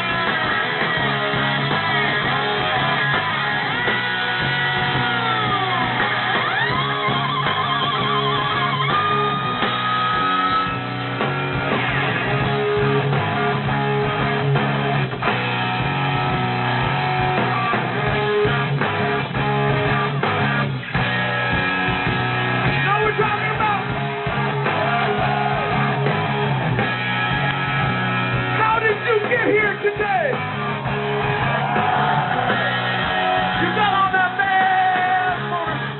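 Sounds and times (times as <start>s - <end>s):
electric guitar: 0.0s - 35.9s
rock band playing live: 0.0s - 35.9s.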